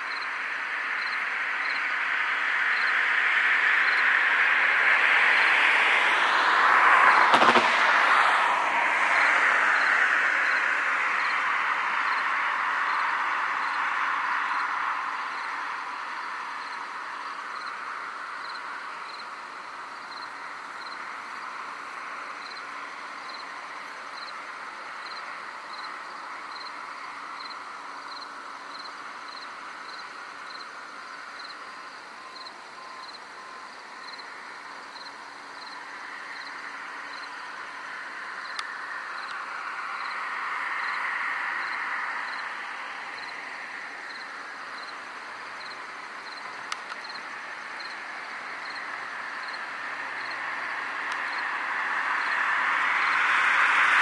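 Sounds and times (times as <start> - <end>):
chorus of night insects: 0.0 - 54.0
crickets chirping: 0.0 - 54.0.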